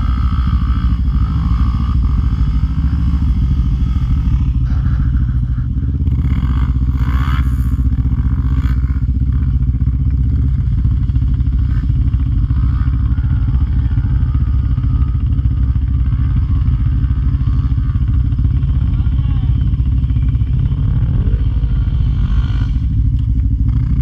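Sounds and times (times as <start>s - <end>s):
atv engines idling: 0.0s - 24.0s.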